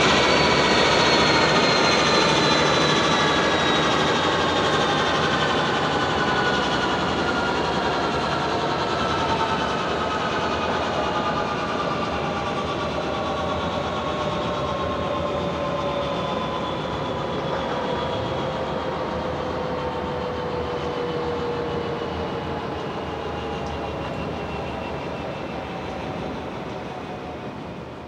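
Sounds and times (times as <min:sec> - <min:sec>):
turboprop engines winding down: 0:00.0 - 0:27.9.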